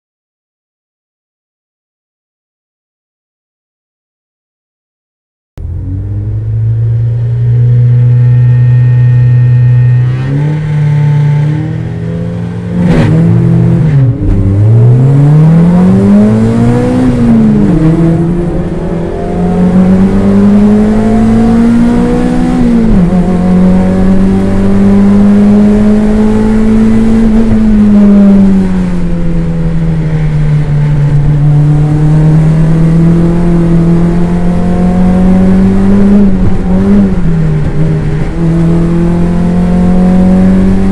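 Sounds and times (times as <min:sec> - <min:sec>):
race car engine revving: 0:05.6 - 0:40.9.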